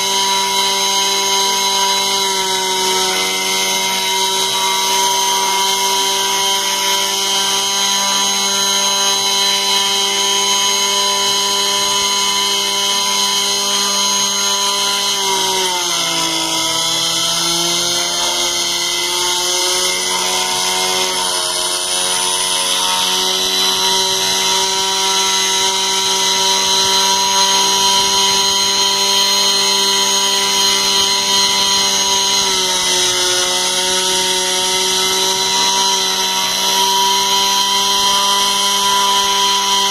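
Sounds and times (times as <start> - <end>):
end mill cutting wood: 0.0 - 39.9
router spindle whine: 0.0 - 39.9.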